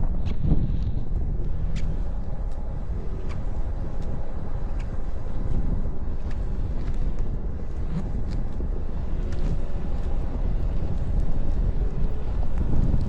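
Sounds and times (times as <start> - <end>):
vehicle road rumble: 0.0 - 13.0
wind buffeting microphone: 0.0 - 13.0.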